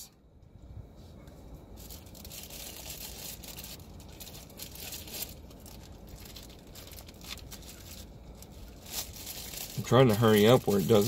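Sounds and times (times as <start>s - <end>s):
packaging crinkling: 1.8s - 11.0s.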